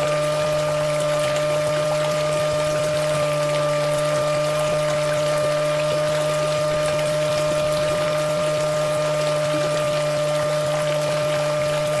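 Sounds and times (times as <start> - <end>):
electric water pump whining: 0.0 - 12.0
water jet splashing on ground: 0.0 - 12.0.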